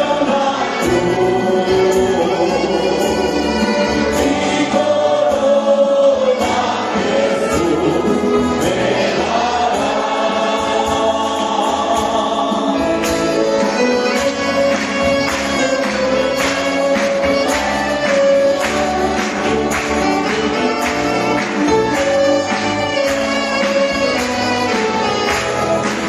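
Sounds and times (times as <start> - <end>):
congregation singing a hymn: 0.0 - 26.0
instruments accompanying: 0.0 - 26.0.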